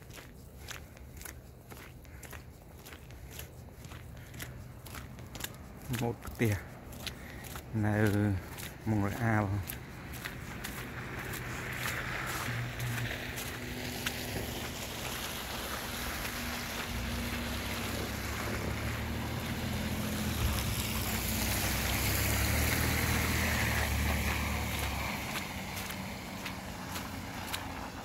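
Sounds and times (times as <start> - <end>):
vehicle engine rumble: 0.0 - 28.0
tyres hissing on wet road: 5.5 - 28.0.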